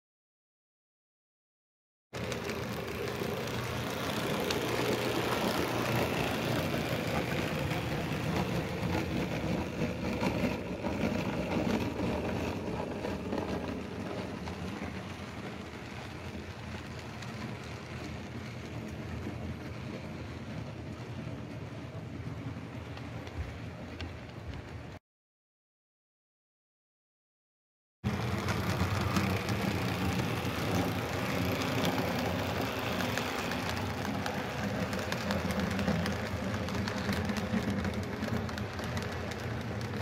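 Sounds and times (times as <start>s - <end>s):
model train wheels rumbling on rails: 2.2s - 25.0s, 28.1s - 40.0s.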